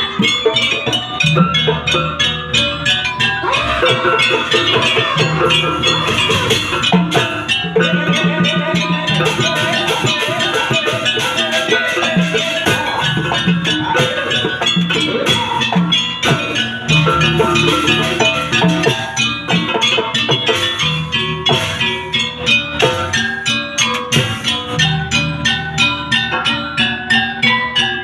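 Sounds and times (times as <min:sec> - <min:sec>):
gamelan and drums music: 0:00.0 - 0:28.0.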